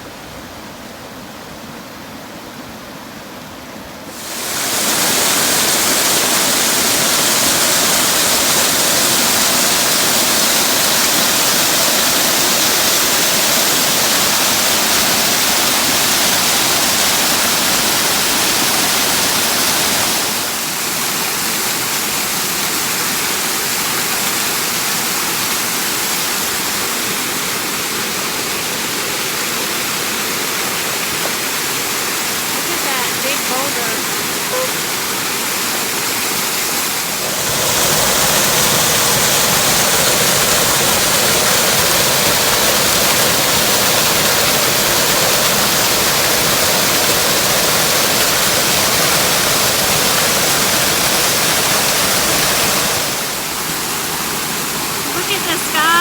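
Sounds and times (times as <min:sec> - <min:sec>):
waterfall rushing: 0:04.1 - 0:56.0.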